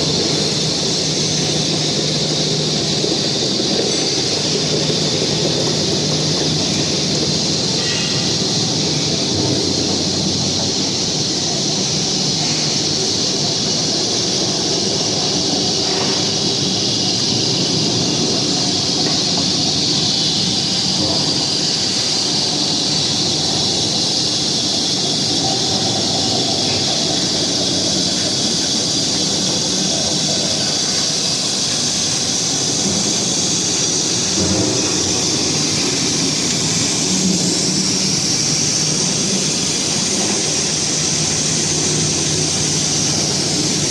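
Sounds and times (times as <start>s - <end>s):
steady mechanical drone: 0.0s - 43.9s
strong even hiss: 0.0s - 43.9s.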